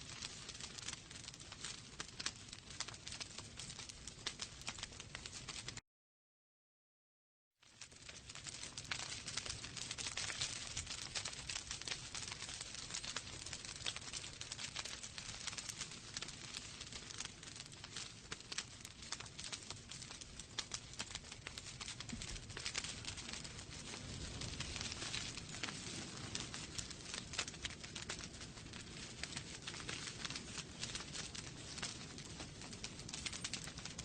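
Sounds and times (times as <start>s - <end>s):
fire crackling and popping: 0.0s - 5.8s, 7.6s - 34.0s.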